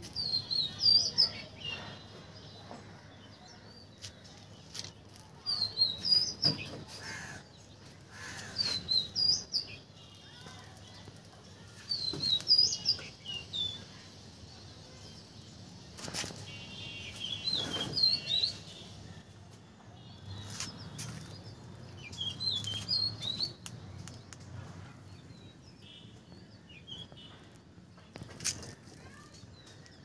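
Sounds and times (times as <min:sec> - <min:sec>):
small birds chirping: 0:00.0 - 0:19.2, 0:20.0 - 0:30.0.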